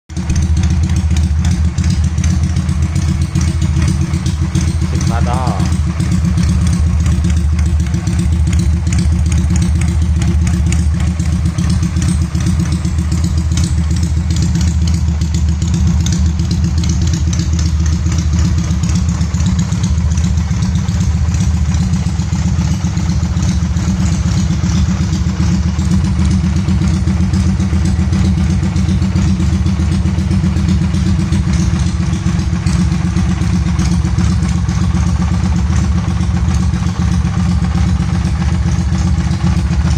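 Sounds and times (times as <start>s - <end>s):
motorcycle engine idling: 0.1s - 39.9s.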